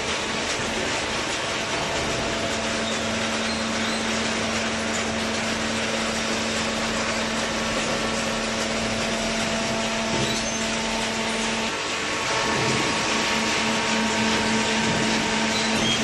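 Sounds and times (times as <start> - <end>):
industrial machinery humming: 0.0 - 16.0.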